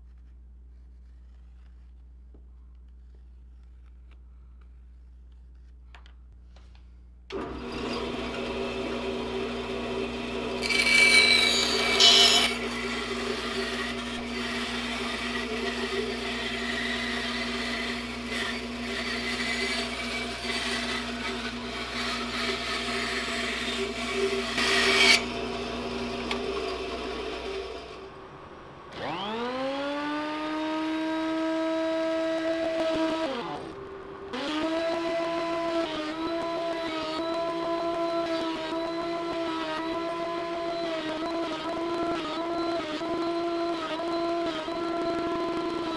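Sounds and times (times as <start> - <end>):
bandsaw cutting wood: 7.3 - 28.0, 29.0 - 45.9
thickness planer motor whining: 7.3 - 28.1, 28.9 - 45.9.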